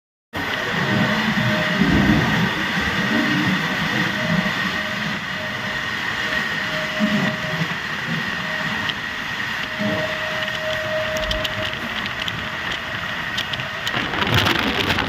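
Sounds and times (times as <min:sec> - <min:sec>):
freight train rumble and rattle: 0:00.4 - 0:15.0
steady high whine: 0:00.4 - 0:15.0.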